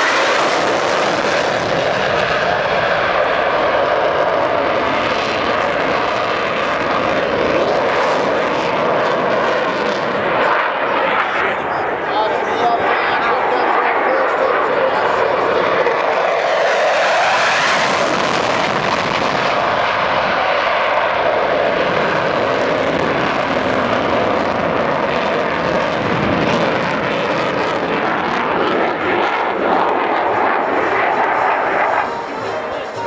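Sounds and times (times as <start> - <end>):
jet engine roaring overhead: 0.0 - 33.0.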